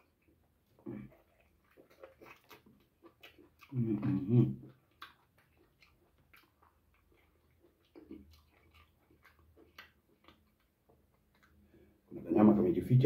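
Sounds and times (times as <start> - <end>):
wet chewing mouth clicks: 0.0 - 12.1.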